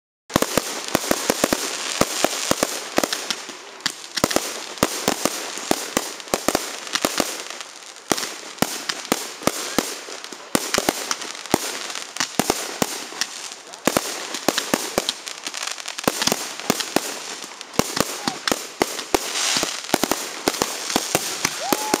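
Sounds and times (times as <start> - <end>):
fireworks bangs: 0.3 - 22.0.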